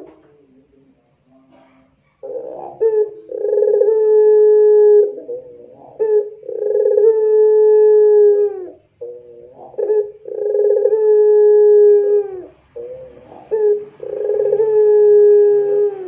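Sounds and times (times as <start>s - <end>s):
dove long call: 2.2s - 16.0s
dove short broken coos: 2.2s - 16.0s.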